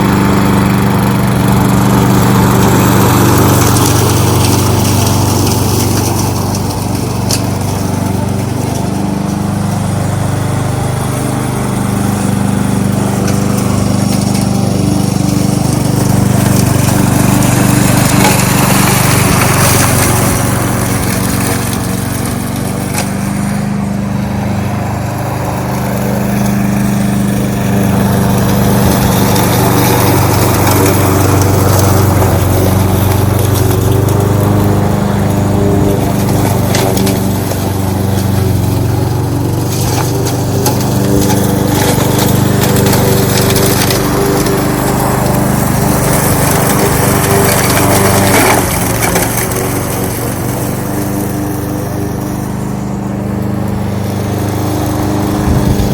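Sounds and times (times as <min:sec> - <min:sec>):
lawn mower engine running: 0:00.0 - 0:55.9.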